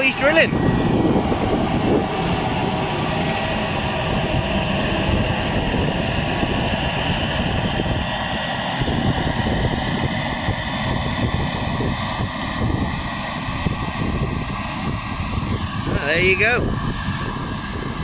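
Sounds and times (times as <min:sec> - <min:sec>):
tractor engine working: 0:00.0 - 0:18.0
wind buffeting microphone: 0:00.0 - 0:18.0.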